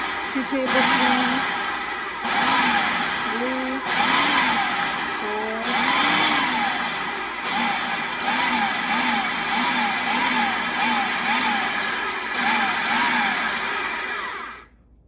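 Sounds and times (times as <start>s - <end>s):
food processor motor running: 0.0s - 14.7s.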